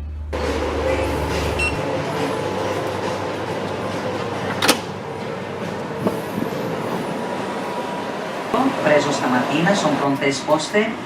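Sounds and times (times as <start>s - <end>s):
ship onboard noise: 0.0s - 11.0s.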